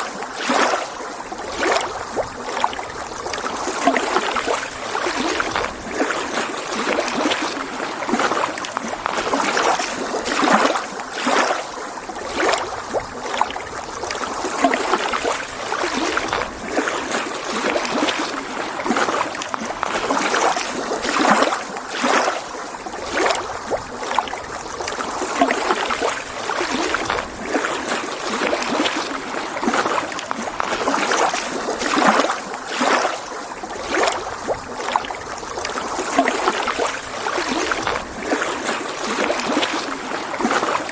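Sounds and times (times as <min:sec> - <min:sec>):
waves lapping on shore: 0:00.0 - 0:40.9.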